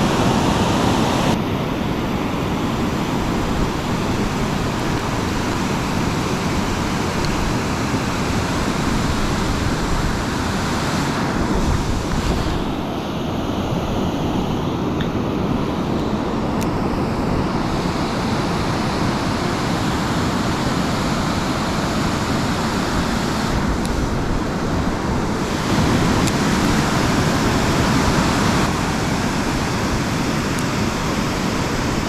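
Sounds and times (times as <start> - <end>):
fast-flowing river water: 0.0 - 32.0.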